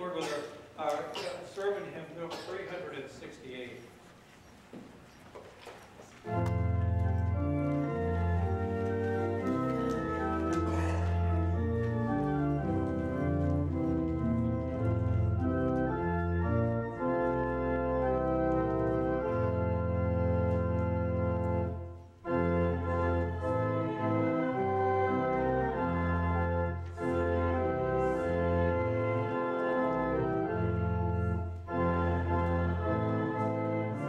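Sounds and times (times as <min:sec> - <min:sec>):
church organ playing hymn: 0:00.0 - 0:04.5, 0:05.7 - 0:34.0.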